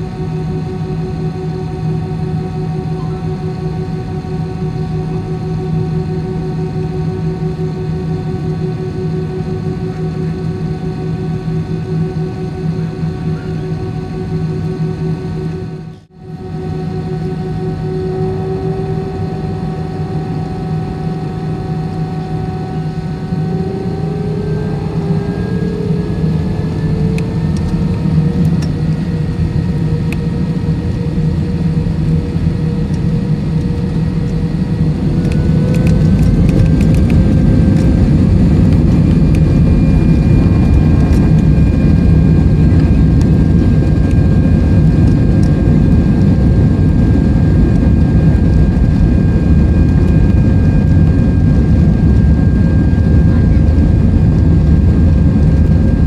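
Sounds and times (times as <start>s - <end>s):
jet engines roaring and whining: 0.0s - 56.0s.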